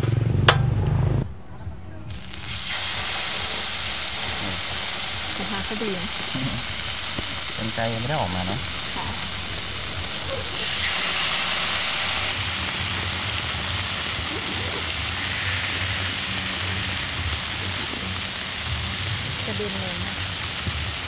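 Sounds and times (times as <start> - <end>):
meat sizzling on griddle: 2.1 - 21.0.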